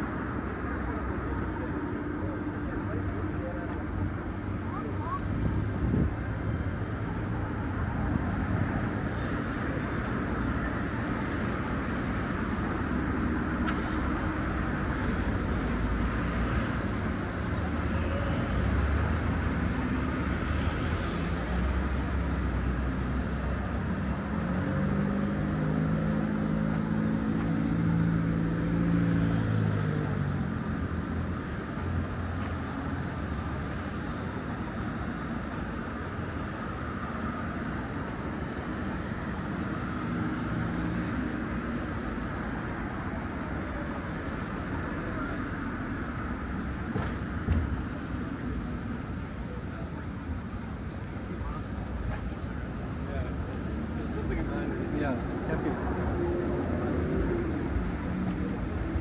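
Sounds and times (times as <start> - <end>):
passing cars: 0.0 - 59.0
vehicle engine hum passing: 0.0 - 59.0.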